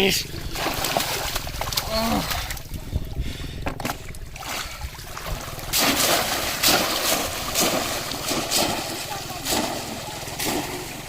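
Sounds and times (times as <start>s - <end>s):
floodwater splashing and sloshing: 0.1s - 11.0s.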